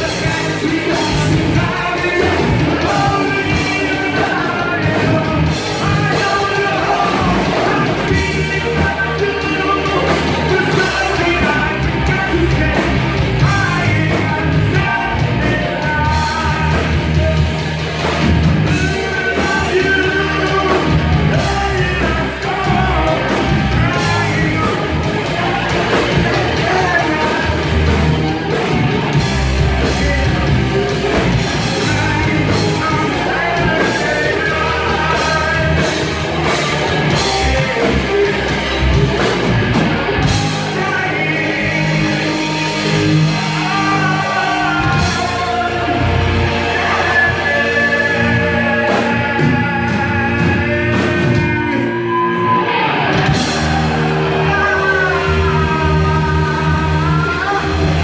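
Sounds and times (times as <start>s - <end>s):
drums: 0.0s - 58.0s
electric guitars: 0.0s - 58.0s
person singing: 0.0s - 58.0s.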